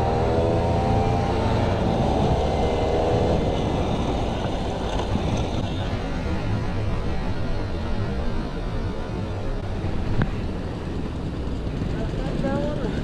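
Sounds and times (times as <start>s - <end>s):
motorcycle engine at road speed: 0.0s - 13.0s
wind rumble on microphone: 0.0s - 13.0s.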